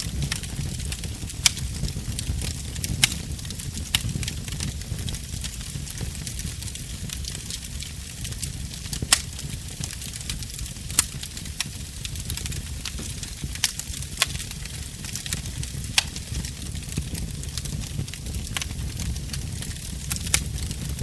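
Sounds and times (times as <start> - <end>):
fire crackling and popping: 0.0 - 21.0
fire rumbling: 0.0 - 21.0.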